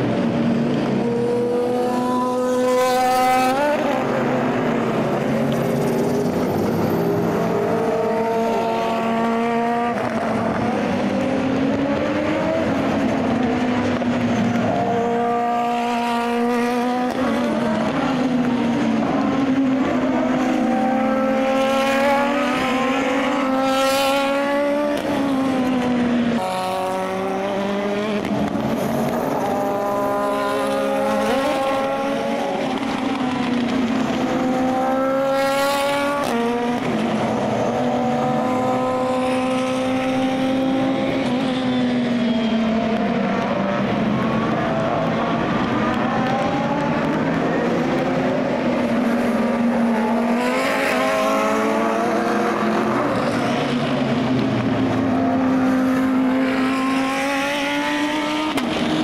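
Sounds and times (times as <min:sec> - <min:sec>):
race cars driving past: 0:00.0 - 0:59.0.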